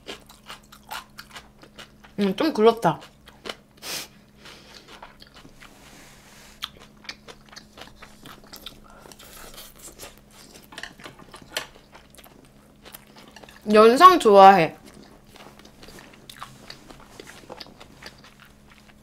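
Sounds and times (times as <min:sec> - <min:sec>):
person chewing close up: 0:00.0 - 0:02.3, 0:03.0 - 0:05.8, 0:06.6 - 0:13.7, 0:14.8 - 0:19.0.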